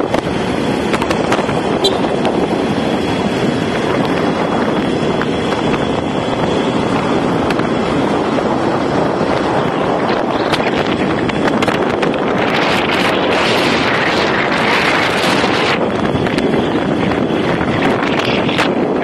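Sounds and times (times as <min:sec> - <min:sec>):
motorcycle running: 0:00.0 - 0:19.0
road noise: 0:00.0 - 0:19.0
wind on microphone: 0:00.0 - 0:19.0.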